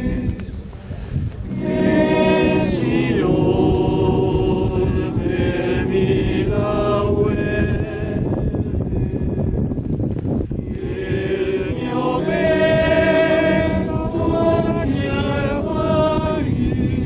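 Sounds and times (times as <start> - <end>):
choir singing: 0.0 - 0.6, 1.5 - 9.4, 10.6 - 17.0.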